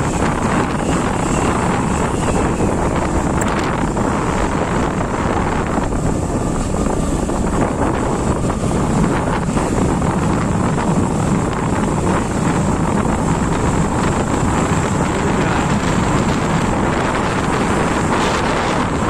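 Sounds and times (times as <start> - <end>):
motorcycle engine and tyres: 0.0 - 19.0
wind buffeting microphone: 0.0 - 19.0.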